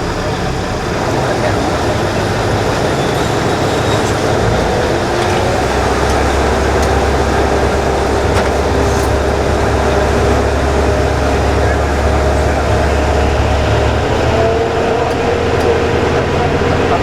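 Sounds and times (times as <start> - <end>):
diesel engine hum: 0.0 - 17.0
wheels on rails: 0.0 - 17.0.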